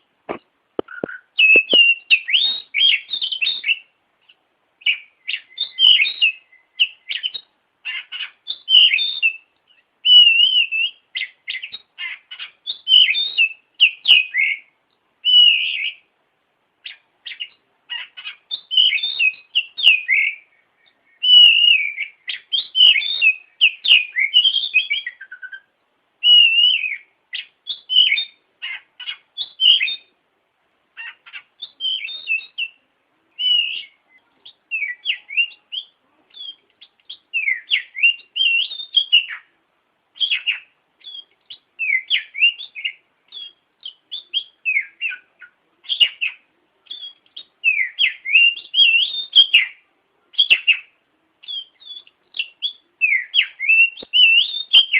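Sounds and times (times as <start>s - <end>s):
bird singing whistled notes: 0.8s - 16.1s, 16.8s - 30.2s, 31.0s - 39.6s, 40.2s - 49.8s, 50.4s - 54.9s.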